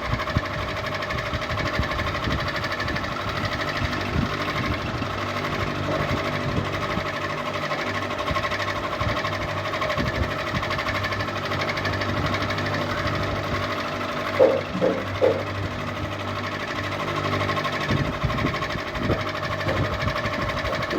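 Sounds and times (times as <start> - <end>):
ceiling fan humming and rattling: 0.0 - 20.9.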